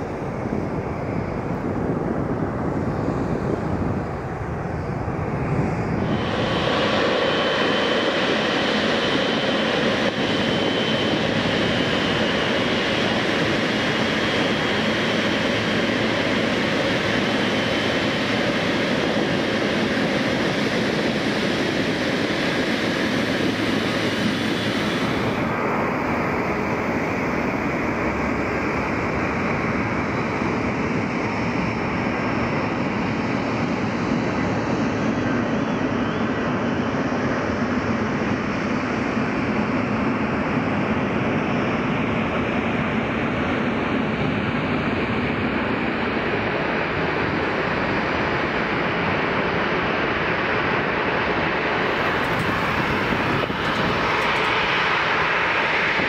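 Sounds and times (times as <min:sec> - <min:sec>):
high jet engine whine: 0:00.0 - 0:56.0
jet engines rumbling: 0:00.0 - 0:56.0.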